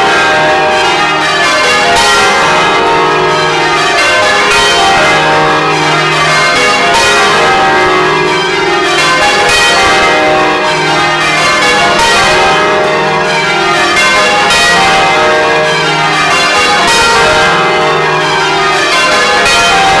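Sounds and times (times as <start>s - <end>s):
church bells pealing: 0.0s - 20.0s.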